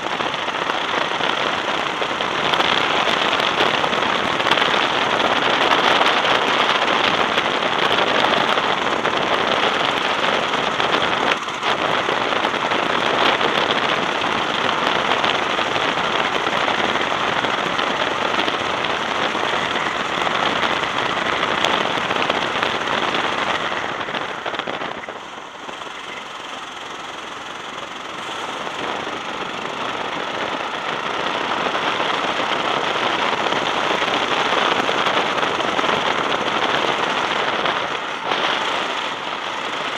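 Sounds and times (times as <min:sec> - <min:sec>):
go-kart engine running hard: 0:00.0 - 0:39.9
wind noise on microphone: 0:00.0 - 0:39.9.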